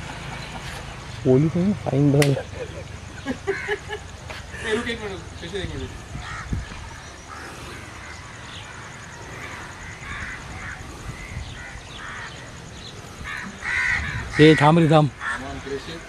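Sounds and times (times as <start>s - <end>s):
birds' harsh calls: 0.0s - 16.0s
outdoor background noise: 0.0s - 16.0s.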